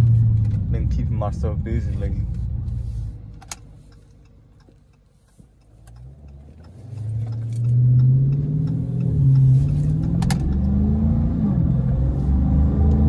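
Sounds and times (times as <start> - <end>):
car engine rumbling and revving: 0.0 - 13.0.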